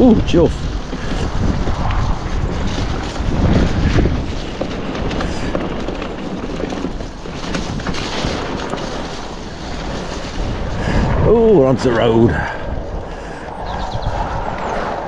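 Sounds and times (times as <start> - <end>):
bike tyre rumble: 0.0 - 15.0
wind buffeting microphone: 0.0 - 15.0.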